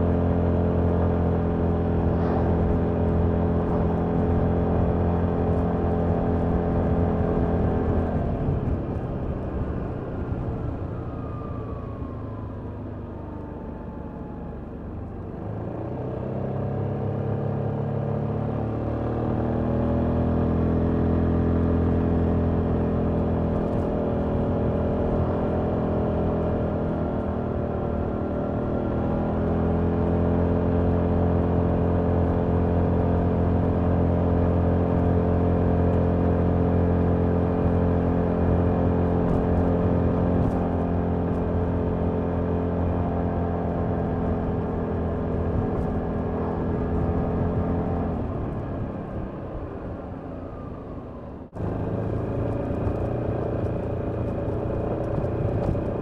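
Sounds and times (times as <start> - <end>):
scooter engine accelerating: 0.0 - 56.0.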